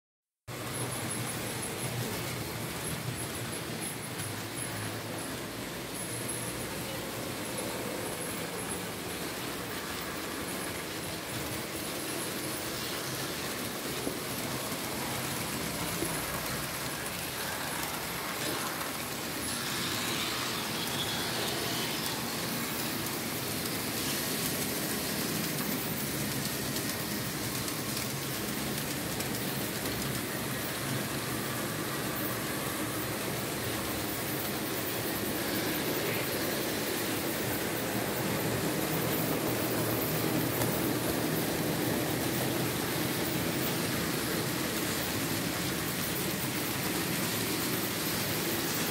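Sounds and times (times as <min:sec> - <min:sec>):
model train wheels rattling: 0:00.5 - 0:48.9.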